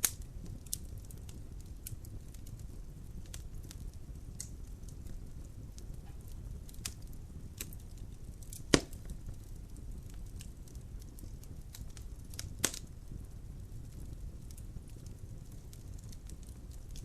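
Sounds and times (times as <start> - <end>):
logs crackling and popping: 0.0 - 17.0
low rumble of flame: 0.0 - 17.0.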